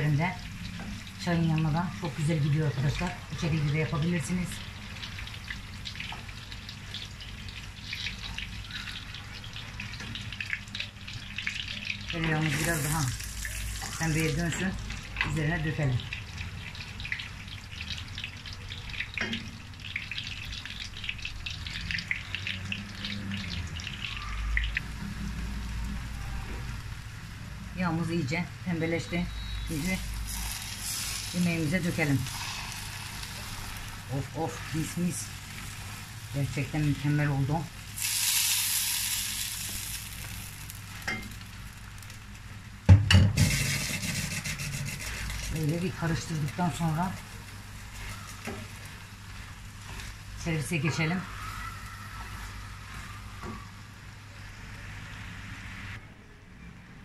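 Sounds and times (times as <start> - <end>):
butter sizzling in a pan: 0.0 - 28.0, 29.3 - 53.8.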